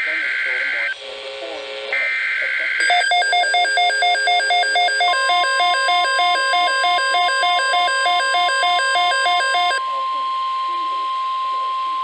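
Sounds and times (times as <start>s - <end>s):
steady warning alarm tone: 2.0s - 12.0s
electronic two-tone warble alarm: 2.3s - 12.0s.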